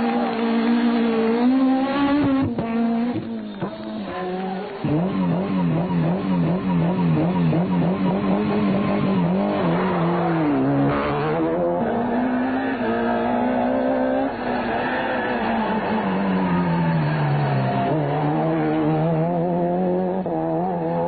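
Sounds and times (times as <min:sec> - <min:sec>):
rally car engines revving: 0:00.0 - 0:21.0.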